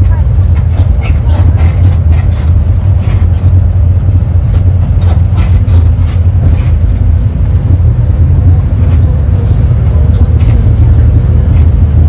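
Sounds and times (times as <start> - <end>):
road and engine noise: 0.0 - 12.0.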